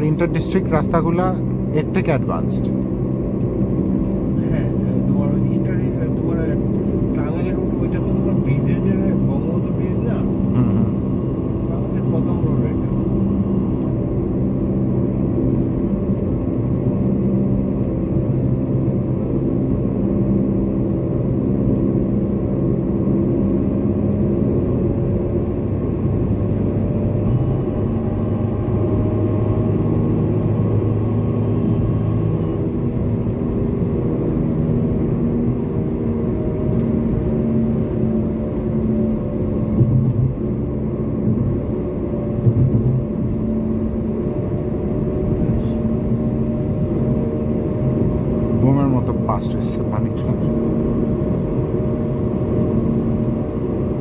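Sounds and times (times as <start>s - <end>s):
car engine and road noise drone: 0.0s - 54.0s.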